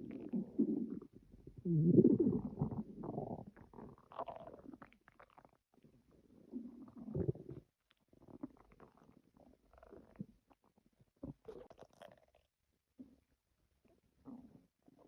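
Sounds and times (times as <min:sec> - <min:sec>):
stomach growling: 0:00.0 - 0:12.5.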